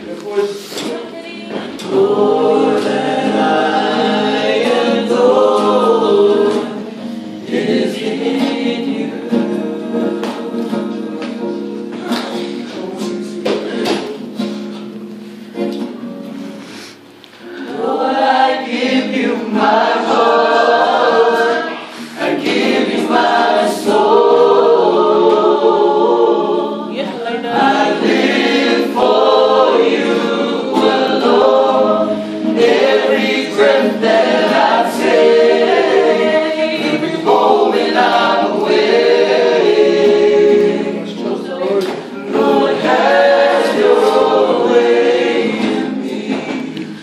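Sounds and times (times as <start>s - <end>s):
group singing choir-style: 0.0s - 14.7s, 17.4s - 47.0s.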